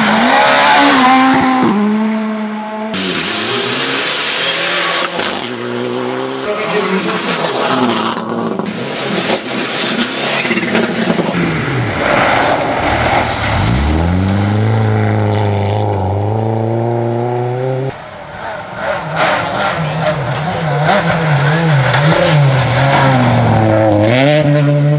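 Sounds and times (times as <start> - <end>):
rally car engine at full throttle: 0.0 - 24.9.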